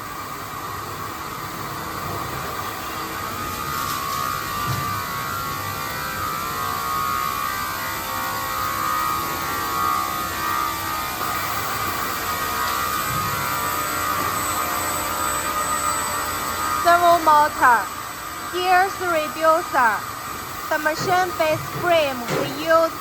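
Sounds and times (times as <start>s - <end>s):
machine whirring with high whine: 0.0s - 23.0s.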